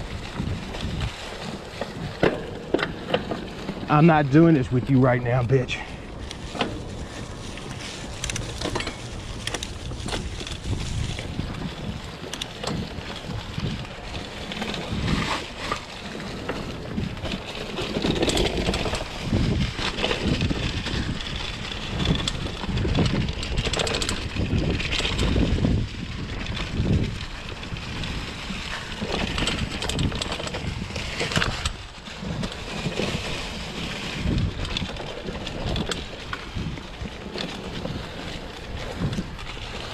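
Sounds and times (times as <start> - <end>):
bike knocks and rattles: 0.0 - 39.9
bike rolling over dry leaves: 0.0 - 39.9
wind buffeting microphone: 0.0 - 39.9.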